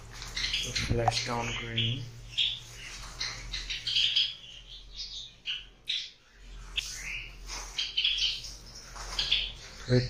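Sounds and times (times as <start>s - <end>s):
sparrows chirping: 0.0s - 10.0s.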